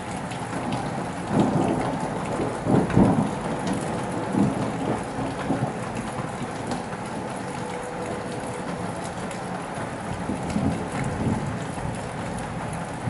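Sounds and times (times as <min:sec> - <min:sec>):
steady rain: 0:00.0 - 0:13.0
thunder rumbling: 0:00.6 - 0:09.0, 0:09.7 - 0:13.0.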